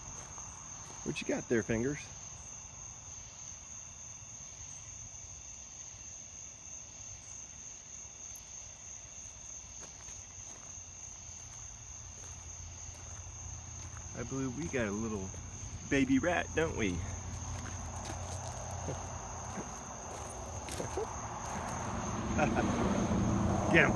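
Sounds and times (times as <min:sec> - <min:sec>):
crickets trilling: 0:00.0 - 0:23.9.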